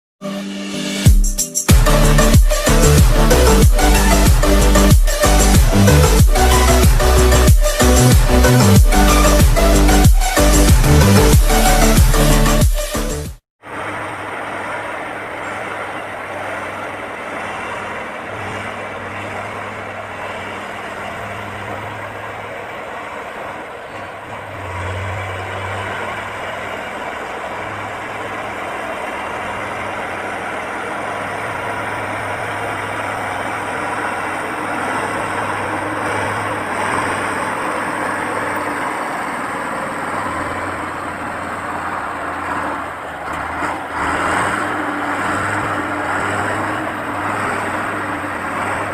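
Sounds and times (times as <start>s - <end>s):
heavy machinery diesel engine running: 1.7s - 48.9s.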